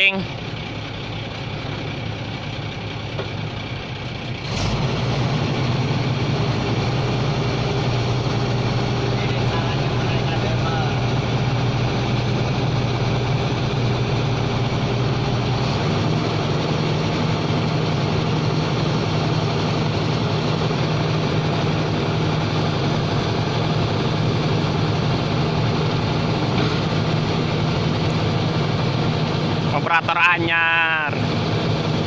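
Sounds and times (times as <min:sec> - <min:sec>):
piling machine engine running: 0:00.0 - 0:32.0.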